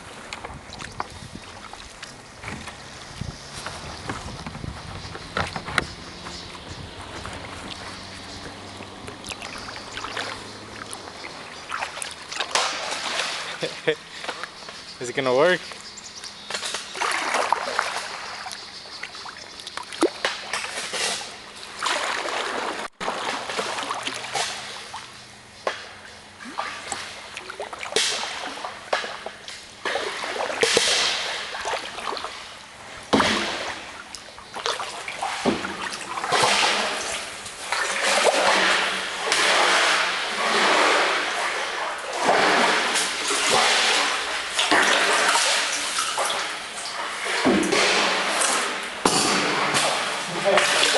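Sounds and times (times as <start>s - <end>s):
kayak paddle splashing and dripping: 0.0s - 15.0s, 15.6s - 50.9s.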